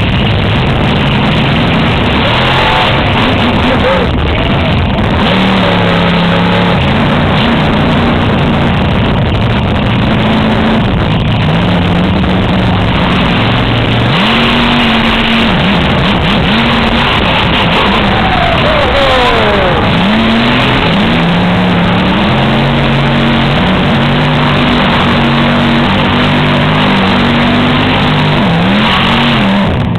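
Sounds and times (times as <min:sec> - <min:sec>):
high whine falling in pitch: 0:00.0 - 0:29.9
truck engine revving: 0:00.0 - 0:29.9.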